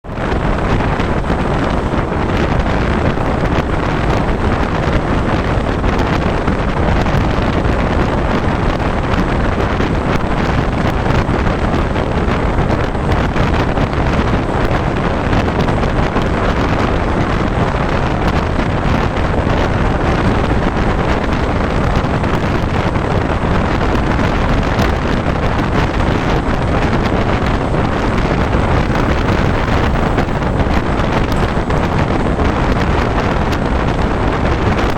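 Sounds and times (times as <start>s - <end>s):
moving train rumble: 0.0s - 34.9s
wind buffeting microphone: 0.0s - 34.9s.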